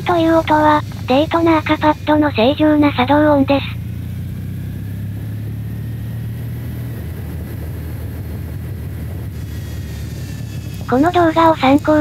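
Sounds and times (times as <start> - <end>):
faint high brake whine: 0.0 - 12.0
motorcycle engine running: 0.0 - 12.0.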